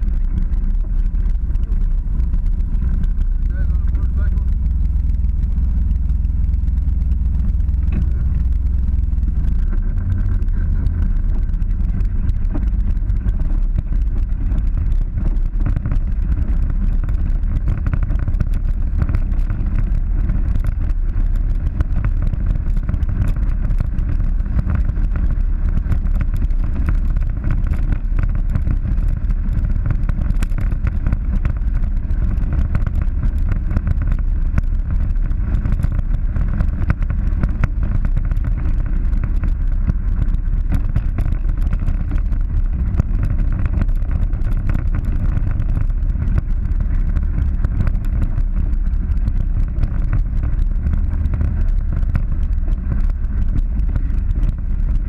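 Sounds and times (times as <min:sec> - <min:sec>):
vehicle engine running: 0:00.0 - 0:55.0
wind buffeting microphone: 0:00.0 - 0:55.0.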